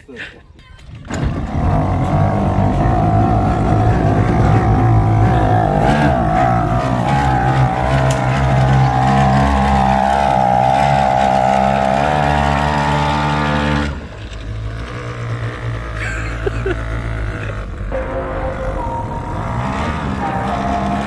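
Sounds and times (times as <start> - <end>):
outboard motor running: 1.2 - 21.0.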